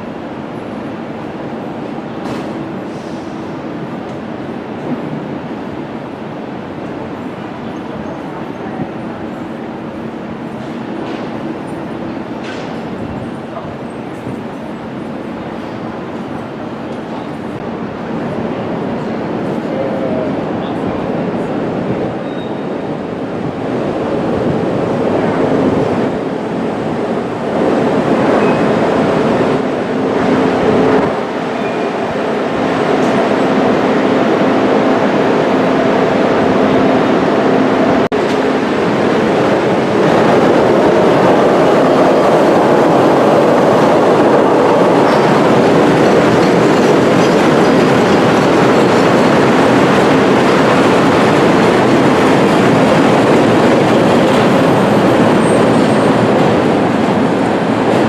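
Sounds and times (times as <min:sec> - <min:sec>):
train wheel and rail noise: 0:00.0 - 0:58.0.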